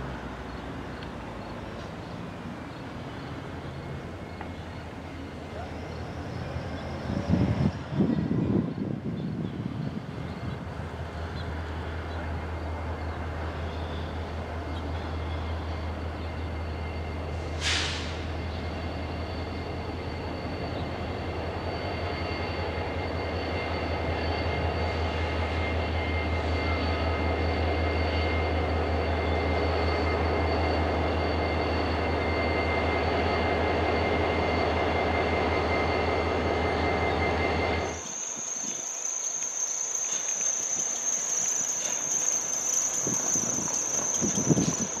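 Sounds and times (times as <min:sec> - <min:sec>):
locomotive engine rumbling: 0:00.0 - 0:45.0.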